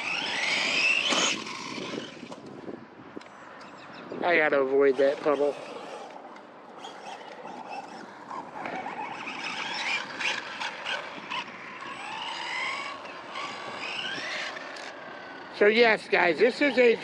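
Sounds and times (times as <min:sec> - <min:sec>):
electric motor whining: 0:00.0 - 0:02.7, 0:04.3 - 0:15.8.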